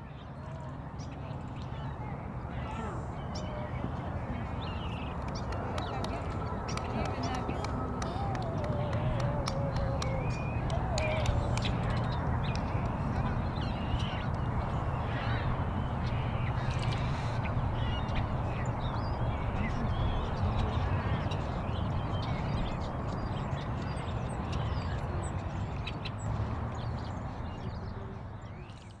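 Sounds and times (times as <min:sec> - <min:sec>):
low background rush: 0:00.0 - 0:29.0
birds chirping and squawking: 0:01.9 - 0:28.9.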